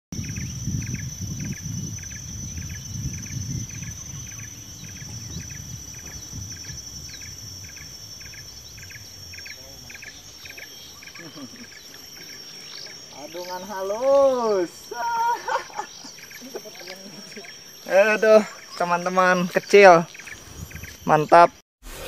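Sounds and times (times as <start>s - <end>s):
bird chirps: 0.2s - 21.6s
regular insect chirp: 0.2s - 21.6s
insect drone: 0.2s - 22.0s.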